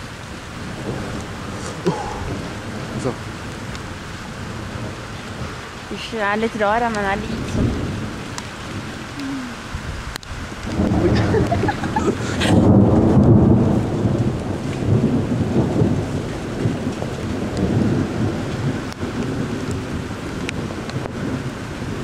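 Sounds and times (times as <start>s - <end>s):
steady rain: 0.0s - 22.0s
thunder rumbling: 0.0s - 22.0s.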